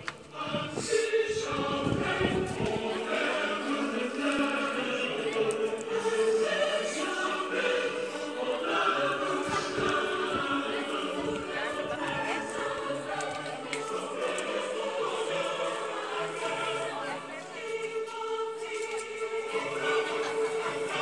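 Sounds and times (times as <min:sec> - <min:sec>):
choir singing long notes: 0:00.0 - 0:21.0.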